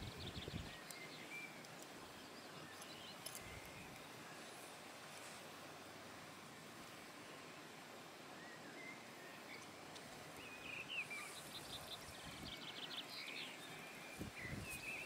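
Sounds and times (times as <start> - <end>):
faint birdsong: 0.0 - 15.0
soft outdoor hiss: 0.0 - 15.0.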